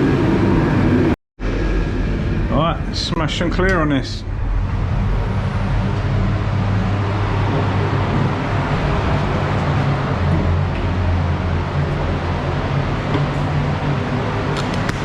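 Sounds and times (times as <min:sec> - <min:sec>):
fans low hum: 0:00.0 - 0:15.0.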